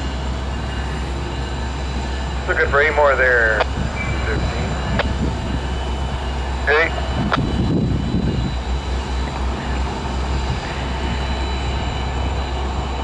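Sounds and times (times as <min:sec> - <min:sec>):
diesel locomotive engine drone: 0:00.0 - 0:13.0
train wheels on rails: 0:00.0 - 0:13.0.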